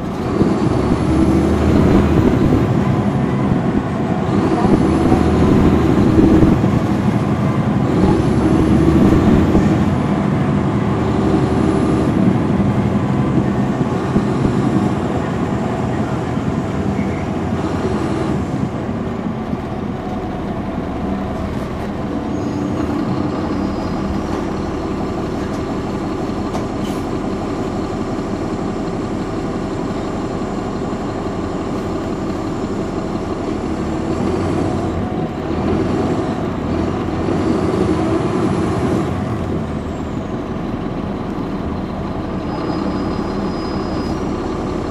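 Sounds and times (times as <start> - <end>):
bus diesel engine: 0.0 - 44.9.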